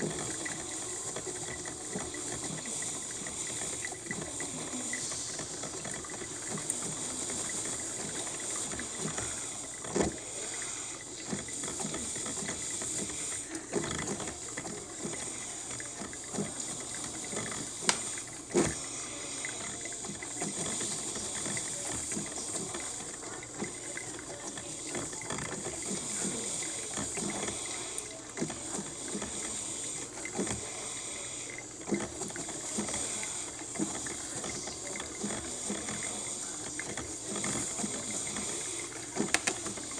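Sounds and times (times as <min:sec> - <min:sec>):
coffee maker hissing and gurgling: 0:00.0 - 0:39.9.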